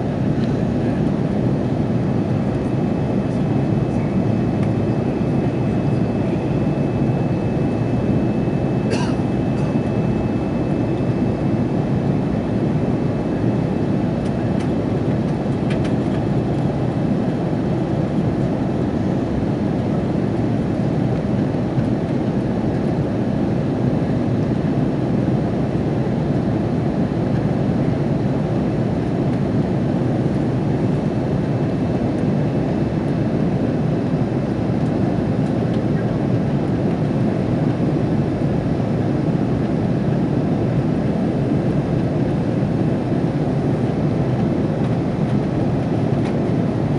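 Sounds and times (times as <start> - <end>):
airplane cabin engine rush: 0.0 - 46.9.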